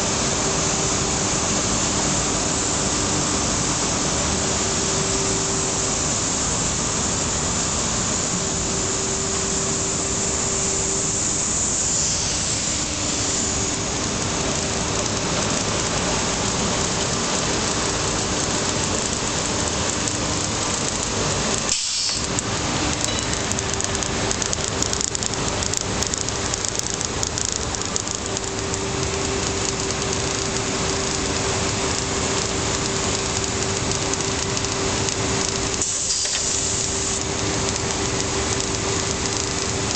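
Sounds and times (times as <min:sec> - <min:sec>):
machinery hissing: 0:00.0 - 0:18.8, 0:21.2 - 0:39.9.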